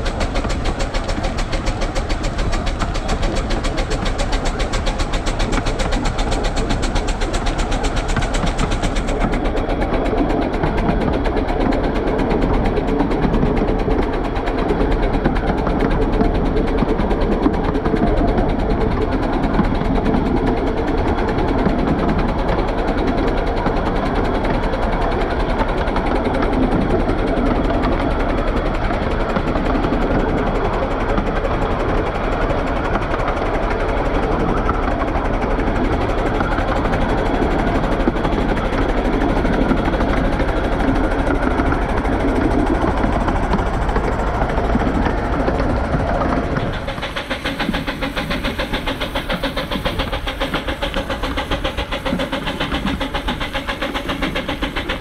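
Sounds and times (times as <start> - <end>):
steady low rumble: 0.0 - 55.0
steam locomotive exhaust beats: 0.0 - 55.0.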